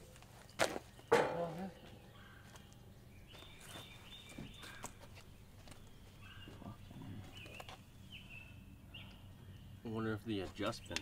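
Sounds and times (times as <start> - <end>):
birds whistling calls: 0.4 - 11.0.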